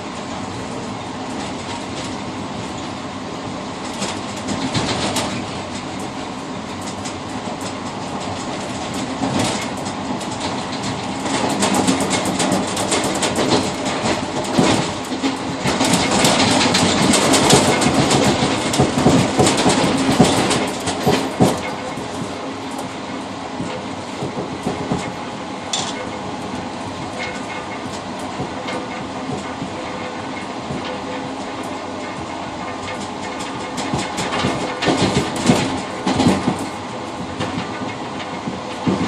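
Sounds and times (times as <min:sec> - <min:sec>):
train rumble: 0:00.0 - 0:39.0
wheels clattering over rail joints: 0:03.8 - 0:39.0.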